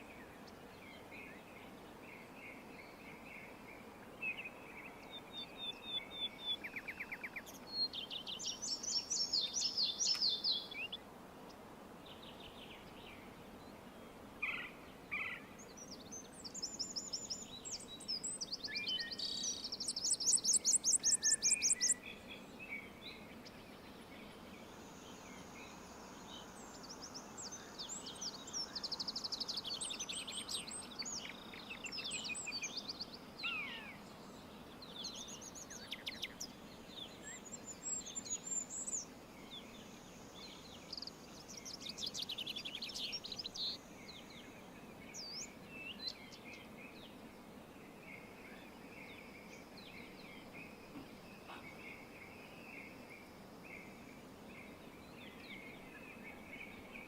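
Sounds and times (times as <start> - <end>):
faint buzzy chirring: 0.0 - 57.0
outdoor ambience hiss: 0.0 - 57.0
songbirds singing: 0.0 - 57.0.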